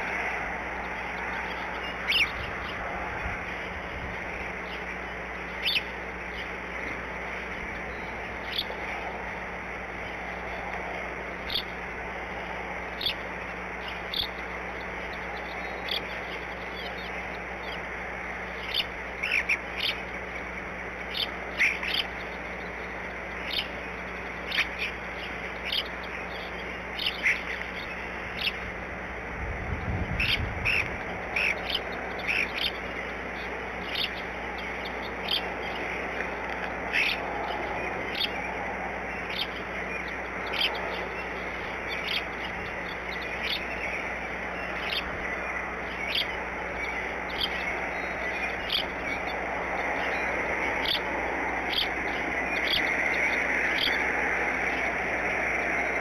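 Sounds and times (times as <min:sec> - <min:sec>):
birds chirping: 0:00.0 - 0:56.0
steady outdoor hiss: 0:00.0 - 0:56.0.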